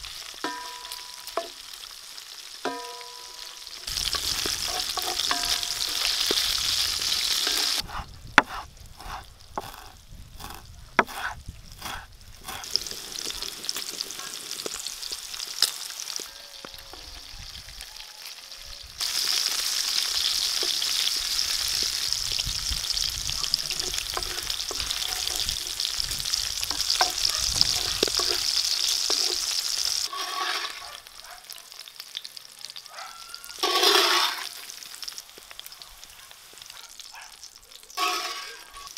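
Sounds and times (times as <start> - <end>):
bacon sizzling in a pan: 0.0 - 38.9.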